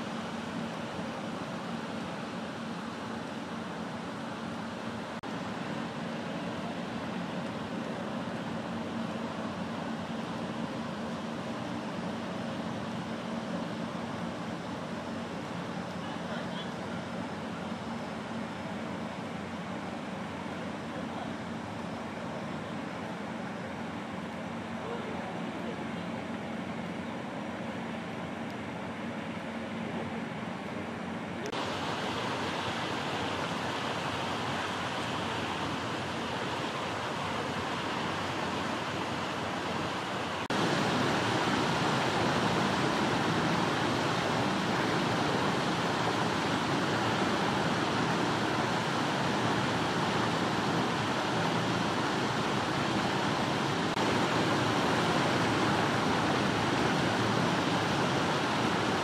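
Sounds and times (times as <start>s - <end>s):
rushing outdoor background noise: 0.0s - 59.0s.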